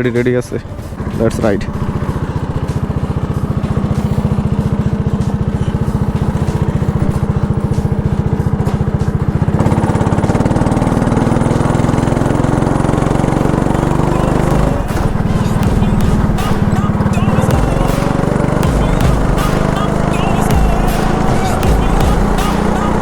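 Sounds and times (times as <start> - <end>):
go-kart engine putter: 0.0 - 23.0.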